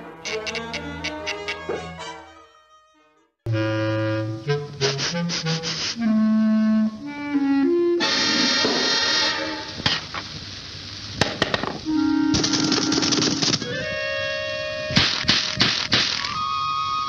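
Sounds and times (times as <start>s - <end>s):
orchestral woodwind music: 0.0s - 9.8s, 11.8s - 15.6s, 16.2s - 17.0s.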